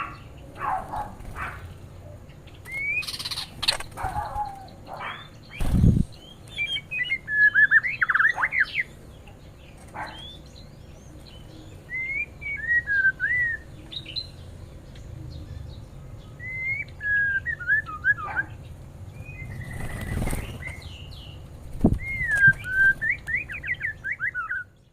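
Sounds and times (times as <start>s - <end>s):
songbirds whistling and warbling: 0.0s - 24.9s.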